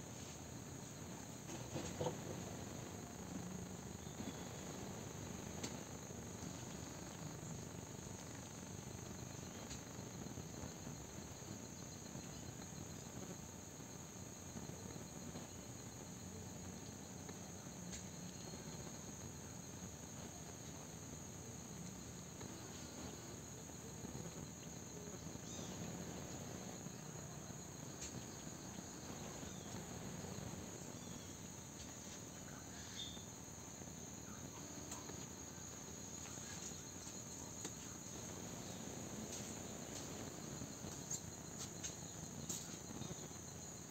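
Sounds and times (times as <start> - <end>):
faint high-pitched insect chorus: 0.0 - 43.9.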